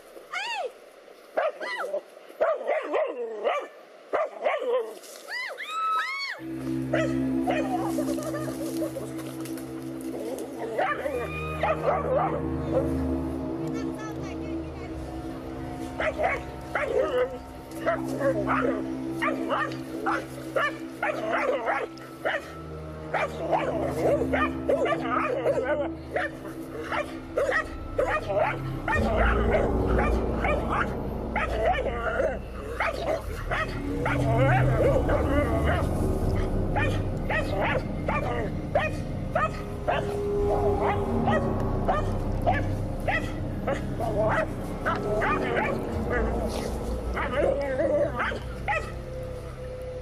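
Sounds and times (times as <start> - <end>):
dogs barking: 2.4 - 4.9, 6.7 - 9.1, 10.4 - 13.2, 15.9 - 49.1
steady low hum: 6.4 - 50.0.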